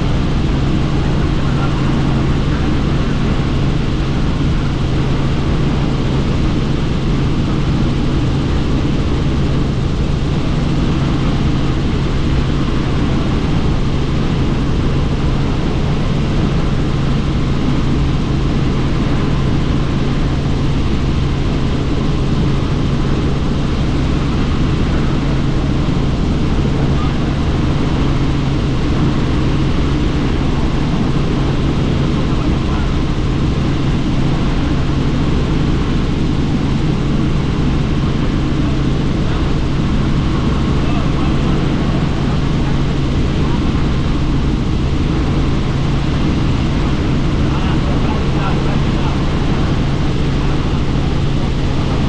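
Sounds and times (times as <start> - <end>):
helicopter rotor and engine drone: 0.0 - 52.0.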